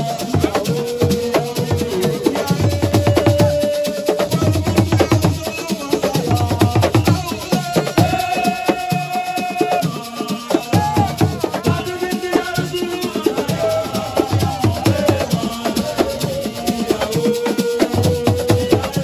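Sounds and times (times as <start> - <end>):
rattling hand percussion: 0.0 - 19.0.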